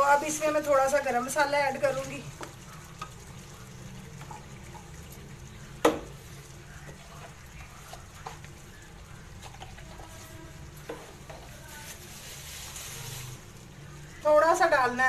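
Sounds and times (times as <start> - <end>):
curry simmering in oil: 0.0 - 15.0.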